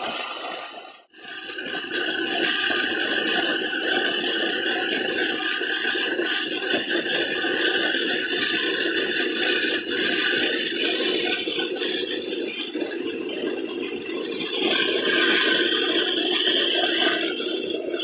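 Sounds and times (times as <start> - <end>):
electric grain mill grinding: 1.2 - 18.0.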